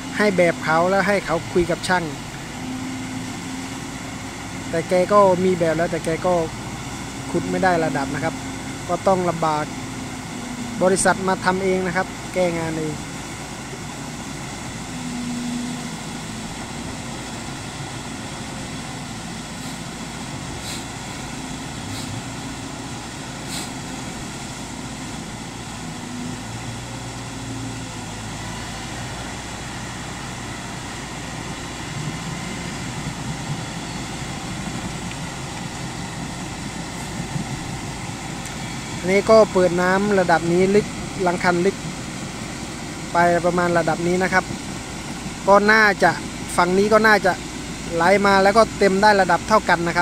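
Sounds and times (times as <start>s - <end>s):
constant rushing noise: 0.0s - 50.0s
excavator diesel engine running: 0.0s - 50.0s.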